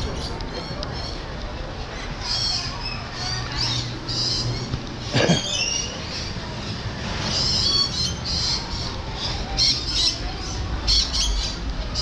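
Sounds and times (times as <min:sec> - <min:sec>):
parrots squawking: 0:02.0 - 0:12.0.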